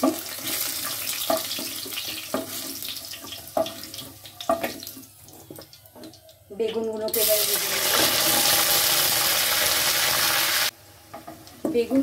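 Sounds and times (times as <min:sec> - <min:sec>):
oil sizzling in a wok: 0:00.0 - 0:06.2, 0:07.1 - 0:12.0.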